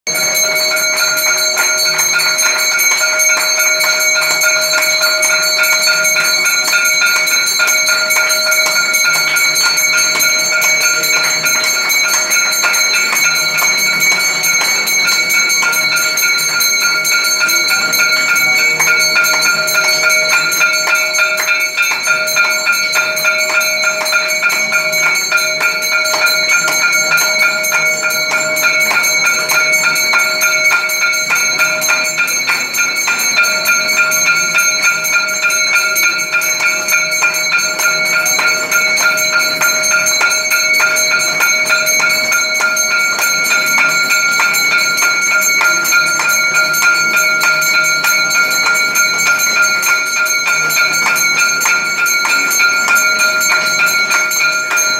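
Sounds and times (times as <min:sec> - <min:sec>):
temple bells ringing rapidly: 0:00.0 - 0:54.9.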